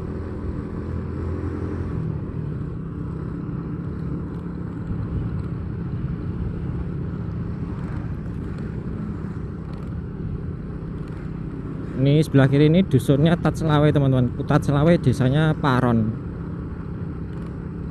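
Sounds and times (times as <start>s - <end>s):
road noise rushing: 0.0s - 17.9s
vehicle engine running: 0.0s - 17.9s.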